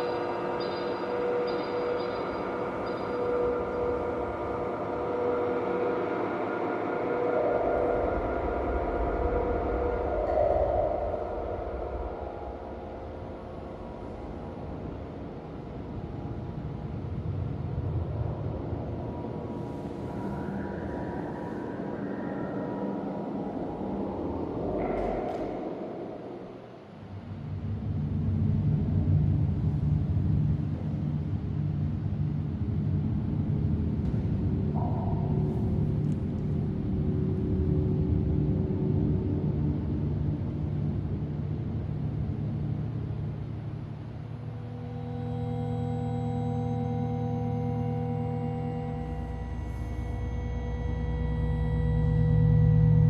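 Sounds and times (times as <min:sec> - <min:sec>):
low hum: 0:00.0 - 0:53.0
low droning rumble: 0:02.4 - 0:53.0.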